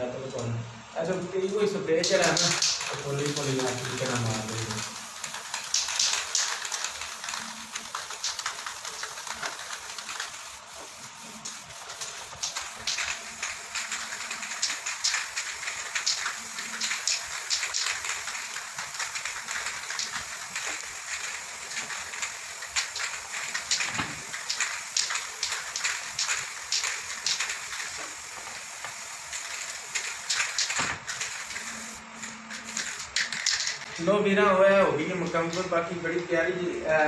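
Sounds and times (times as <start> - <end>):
aerosol spray can hissing: 2.0 - 33.8.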